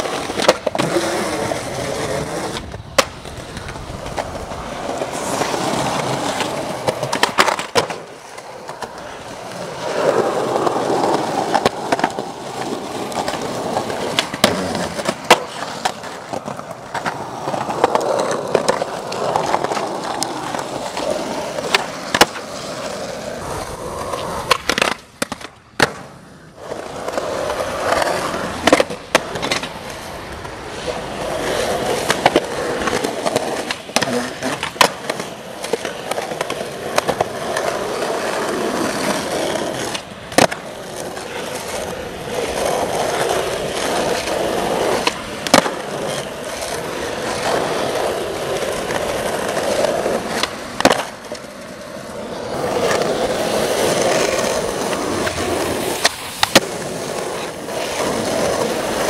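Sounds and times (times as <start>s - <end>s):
skateboard clacks: 0.0s - 59.0s
skateboard wheels rolling on concrete: 0.0s - 59.0s.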